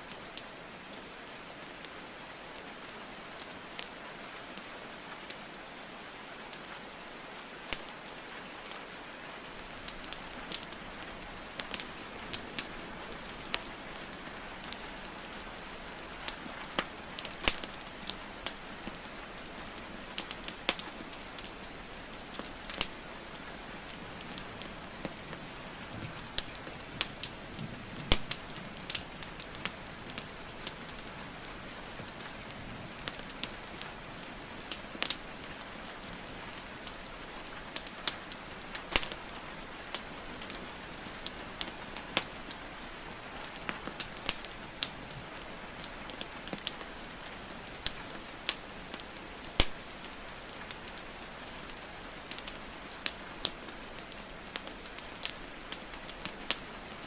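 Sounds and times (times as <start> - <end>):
hiss of rainfall: 0.0 - 57.0
wood fire crackling: 0.0 - 57.0.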